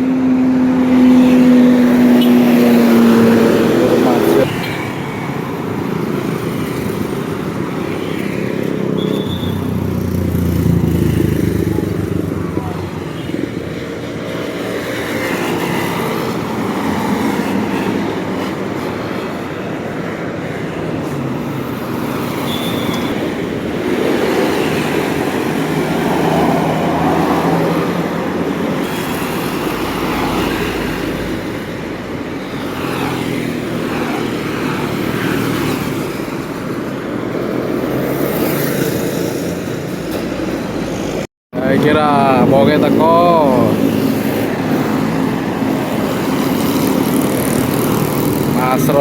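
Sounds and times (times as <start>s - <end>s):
large vehicle engines passing: 0.0s - 49.0s
tyre and road noise: 0.0s - 49.0s.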